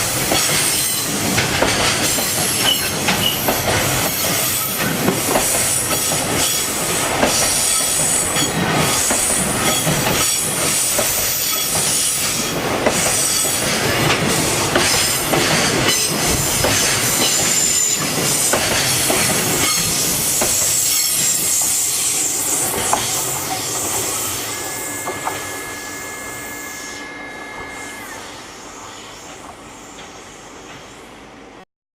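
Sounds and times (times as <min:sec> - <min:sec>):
high wheel squeal: 0:02.1 - 0:30.6.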